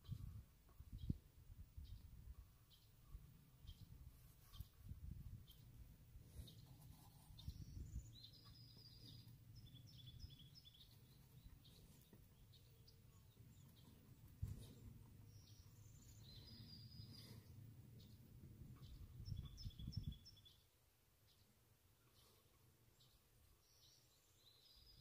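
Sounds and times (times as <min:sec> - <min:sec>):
faint birdsong chirping: 0:00.0 - 0:25.0.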